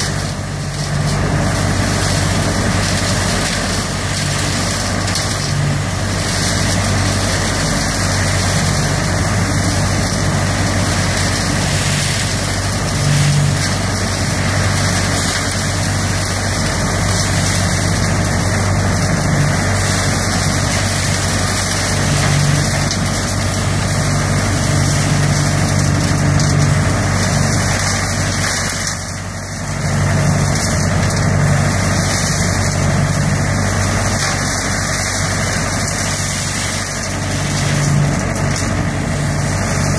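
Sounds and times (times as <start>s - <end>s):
leaf vacuum engine hum: 0.0s - 39.9s
rush of air and leaves: 0.0s - 39.9s.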